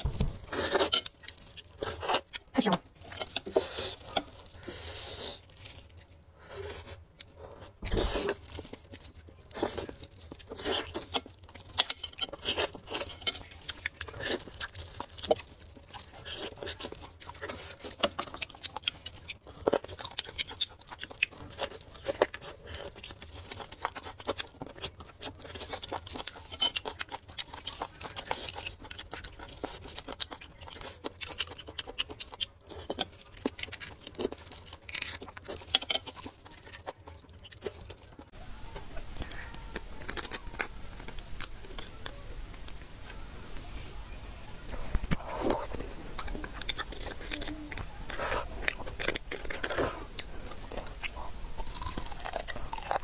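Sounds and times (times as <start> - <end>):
wet chewing and lip smacks: 6.9 - 43.7, 44.6 - 53.0.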